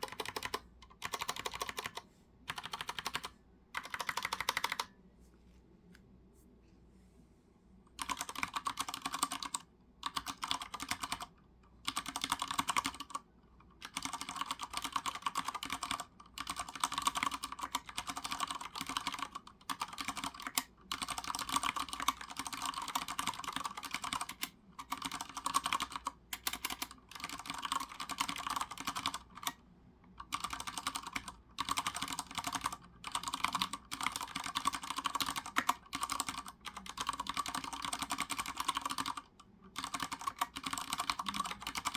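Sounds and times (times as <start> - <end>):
mechanical keyboard typing: 0.0 - 4.9, 8.0 - 13.2, 13.8 - 29.6, 30.2 - 41.9.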